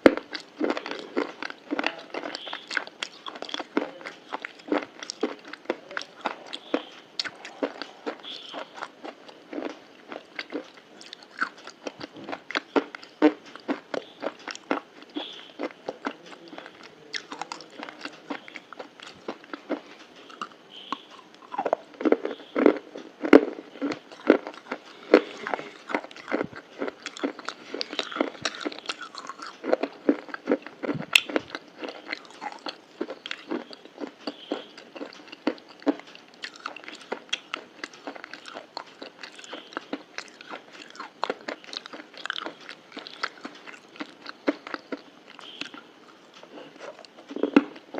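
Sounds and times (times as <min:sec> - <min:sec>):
crunchy chewing and biting: 0:00.0 - 0:47.9.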